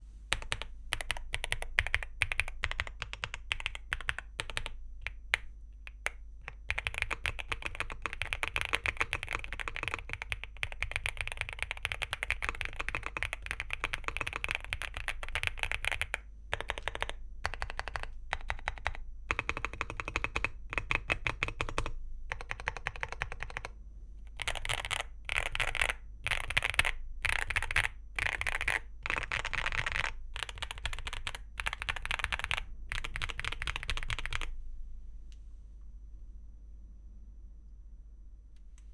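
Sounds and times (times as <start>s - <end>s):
mechanical keyboard typing: 0.3s - 23.7s, 24.3s - 34.5s.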